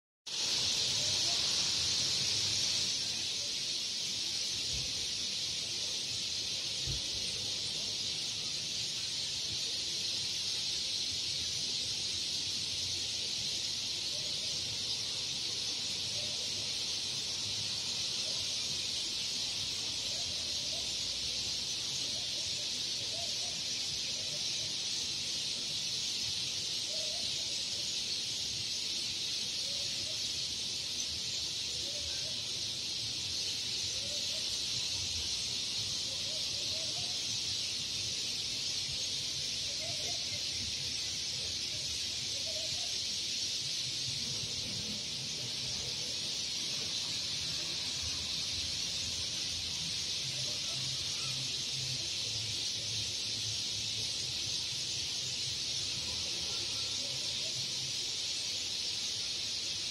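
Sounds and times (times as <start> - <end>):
flock of birds chirping: 0.3 - 59.9.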